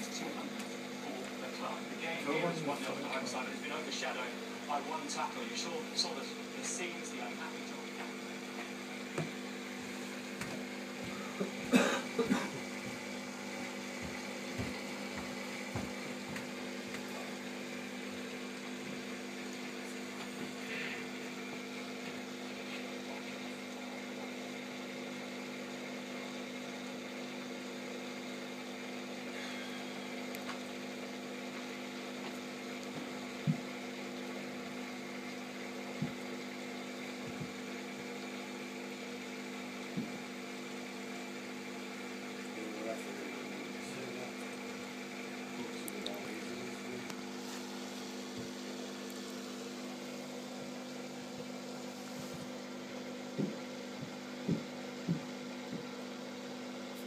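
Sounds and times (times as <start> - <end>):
water pumps humming: 0.0 - 57.0.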